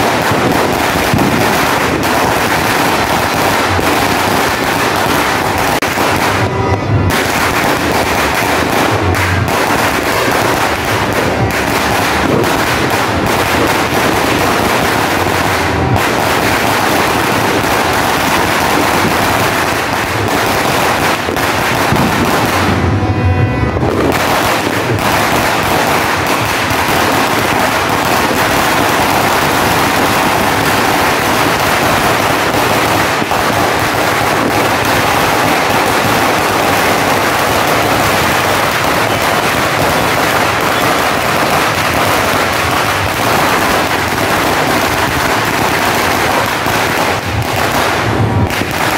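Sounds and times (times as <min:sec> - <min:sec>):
string of firecrackers crackling: 0:00.0 - 0:48.9.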